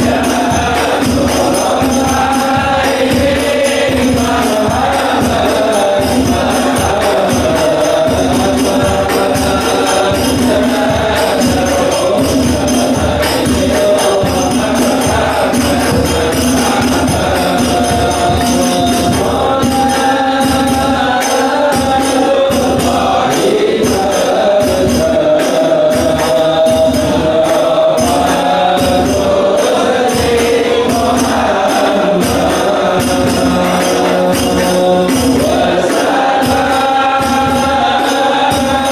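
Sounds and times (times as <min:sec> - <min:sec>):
frame drums beating: 0:00.0 - 0:38.9
men singing in unison: 0:00.0 - 0:38.9.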